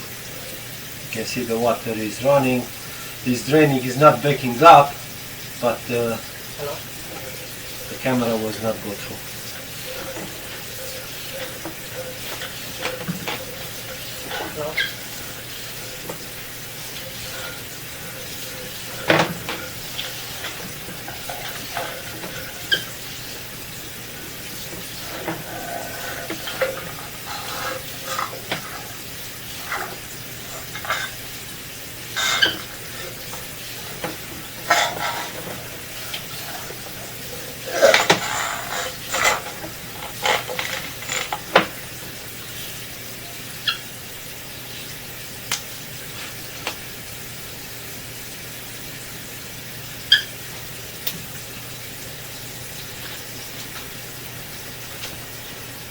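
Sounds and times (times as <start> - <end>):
running water hiss: 0.0 - 55.9.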